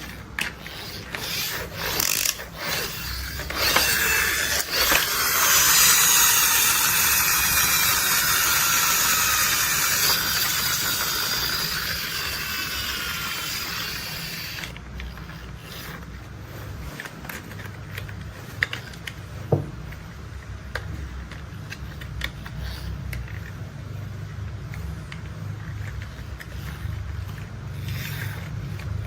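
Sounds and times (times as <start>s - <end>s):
toy gears whirring: 0.0s - 29.0s.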